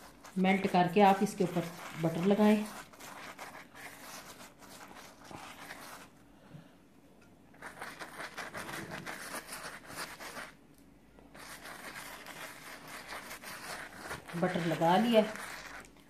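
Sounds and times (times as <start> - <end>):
pastry brush scratching crust: 0.0 - 6.1, 7.6 - 10.6, 11.4 - 16.0.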